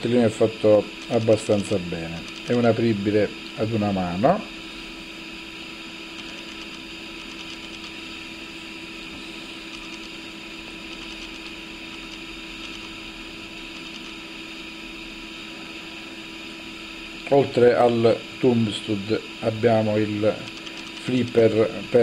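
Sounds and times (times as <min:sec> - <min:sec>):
background hum and hiss: 0:00.0 - 0:22.0.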